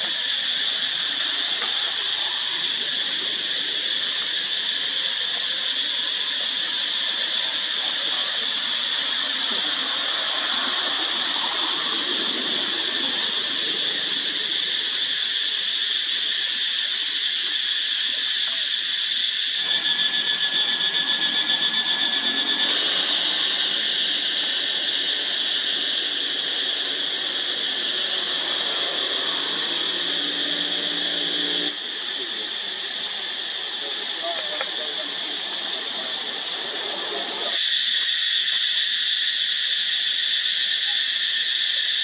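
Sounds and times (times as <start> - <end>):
cicada pulsing buzz: 0.0 - 42.0
cicadas droning: 0.0 - 42.0.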